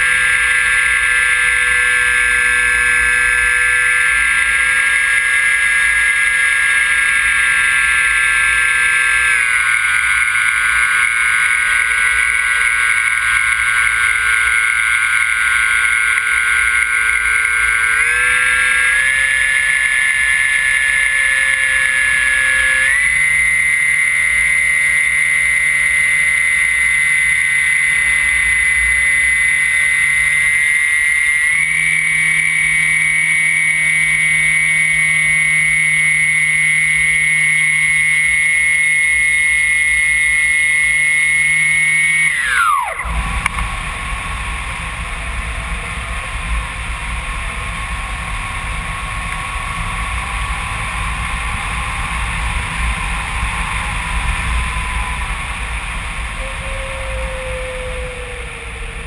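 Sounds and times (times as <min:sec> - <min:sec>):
electric motor propeller whine: 0:00.0 - 0:59.0.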